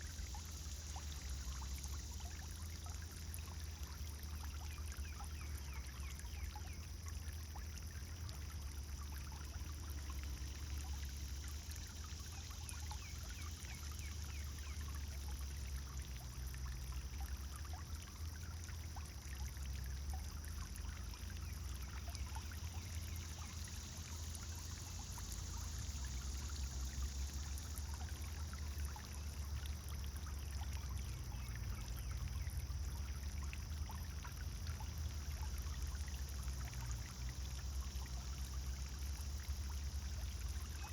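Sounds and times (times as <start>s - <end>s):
fountain water splashing: 0.0s - 40.9s.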